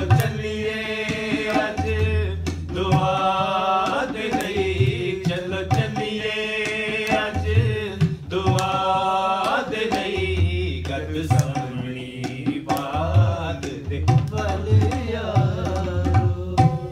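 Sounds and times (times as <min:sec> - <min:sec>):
hand drum beat: 0:00.0 - 0:16.9.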